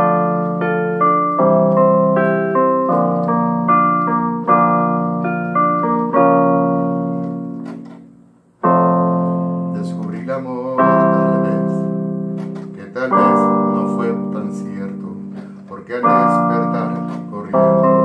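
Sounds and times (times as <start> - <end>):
electronic keyboard playing chords: 0.0 - 18.0.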